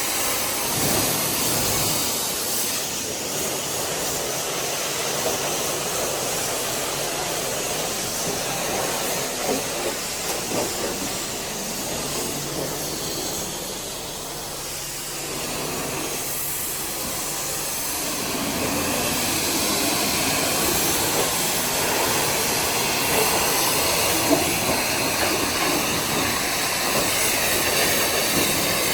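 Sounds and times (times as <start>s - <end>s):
pressure washer spraying water: 0.0s - 28.9s.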